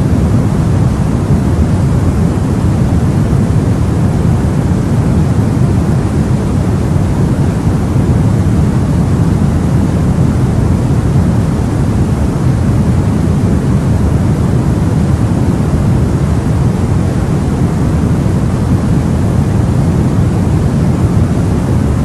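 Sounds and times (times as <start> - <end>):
steady hiss with deep rumble: 0.0 - 22.0.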